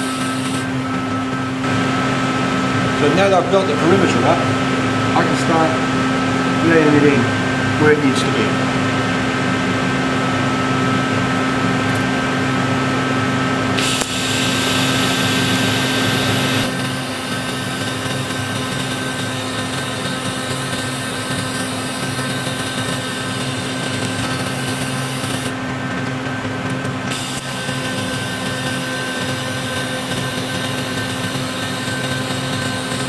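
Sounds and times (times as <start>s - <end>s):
welding arc hissing: 0.0s - 12.8s, 13.5s - 33.0s
steady machine hum: 0.0s - 33.0s.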